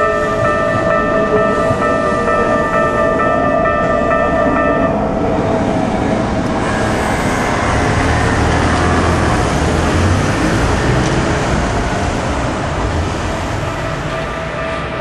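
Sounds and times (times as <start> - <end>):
heavy vehicle engine rumble: 0.0 - 15.0
road traffic noise: 0.0 - 15.0.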